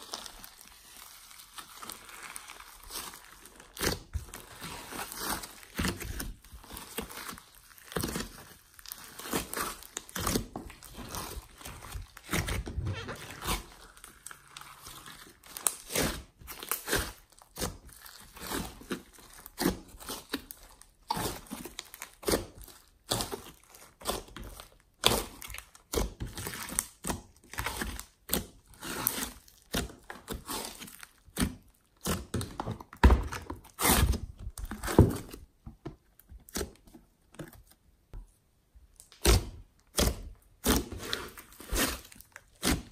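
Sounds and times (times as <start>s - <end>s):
slime squishing: 0.0s - 42.9s.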